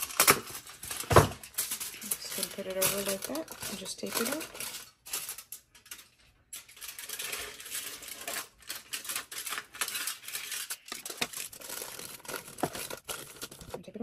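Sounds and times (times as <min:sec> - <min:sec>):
aluminium foil crumpling: 0:00.0 - 0:14.0.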